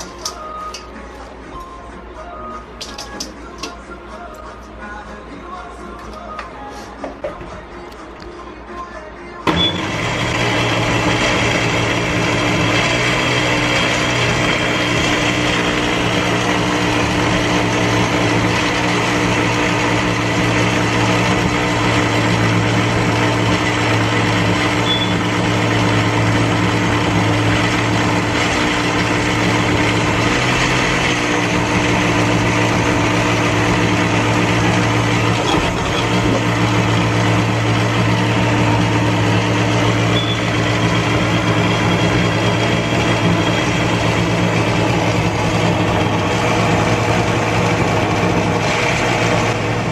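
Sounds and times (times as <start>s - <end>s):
blender running: 9.5s - 49.9s.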